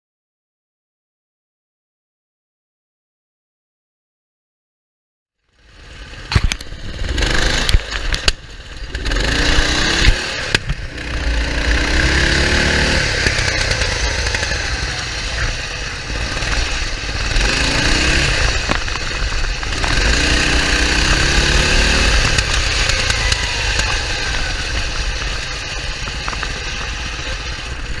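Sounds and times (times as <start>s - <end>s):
lawn tractor engine running: 5.6s - 28.0s.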